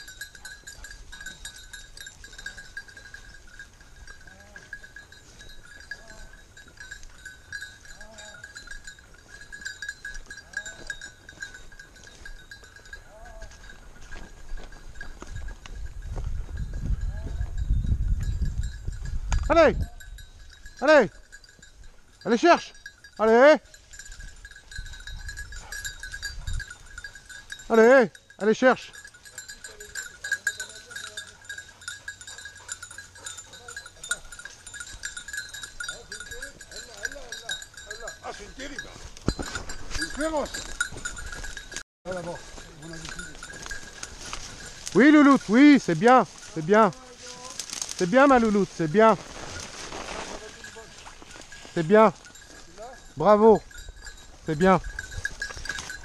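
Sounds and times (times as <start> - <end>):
small bell jingling on dog collar: 0.0 - 56.0.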